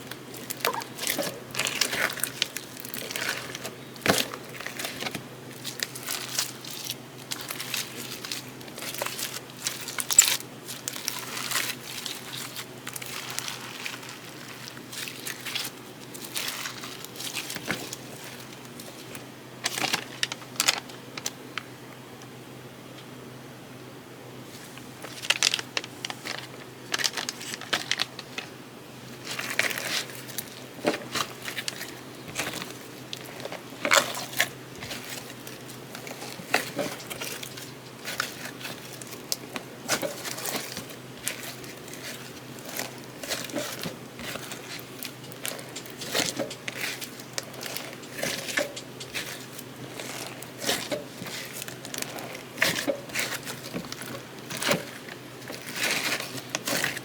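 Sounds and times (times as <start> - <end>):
slime squished by hand: 0.1 - 20.5, 29.2 - 57.0.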